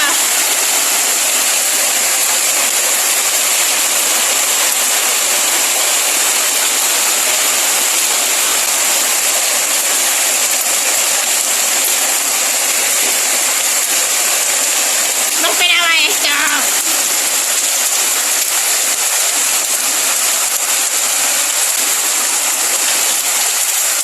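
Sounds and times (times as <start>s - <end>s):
heavy rain and hail: 0.0s - 24.0s.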